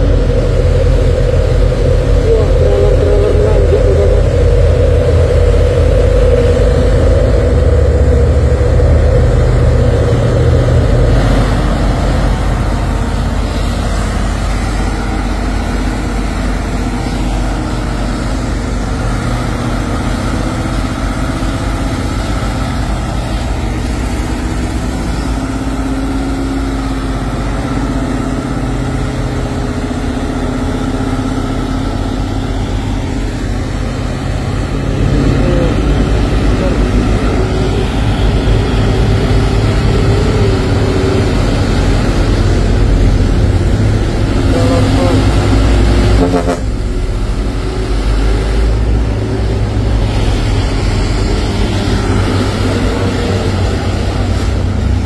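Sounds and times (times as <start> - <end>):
heavy truck engines rumbling: 0.0 - 55.0.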